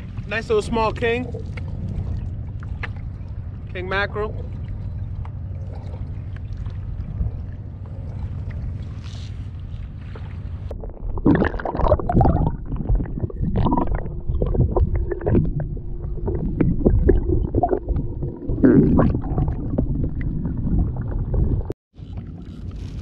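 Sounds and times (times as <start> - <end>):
faint steady hum: 0.0 - 23.0
underwater sloshing and gurgling: 0.0 - 23.0.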